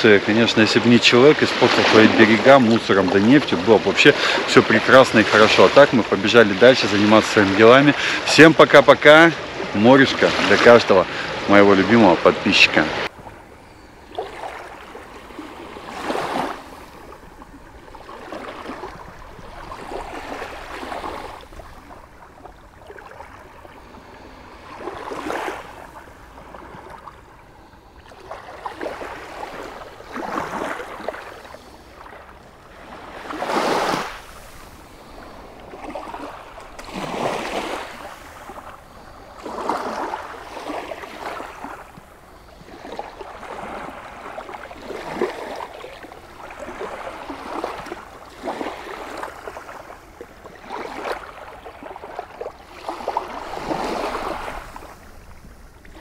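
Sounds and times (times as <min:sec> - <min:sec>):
small waves washing on shore: 0:00.0 - 0:56.0.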